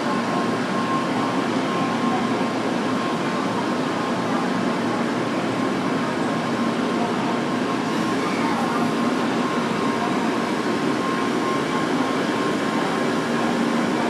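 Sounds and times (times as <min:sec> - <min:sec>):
train mechanical hum: 0:00.0 - 0:14.0.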